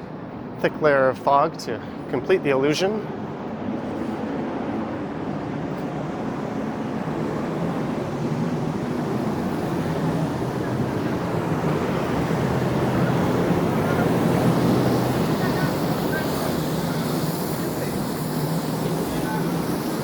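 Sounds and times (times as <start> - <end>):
vehicle approaching: 1.6 - 20.0
traffic hiss on wet street: 3.4 - 20.0.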